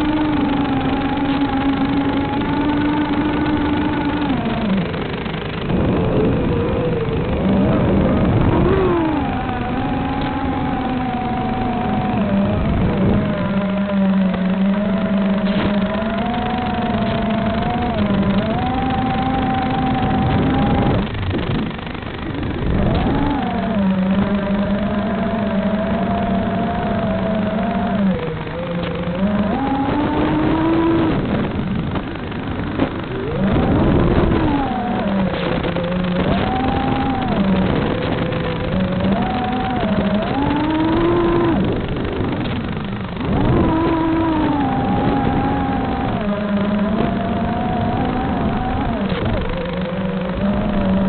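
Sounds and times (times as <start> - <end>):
model aircraft motor whining: 0.0 - 51.0
wind noise on microphone: 0.0 - 51.0.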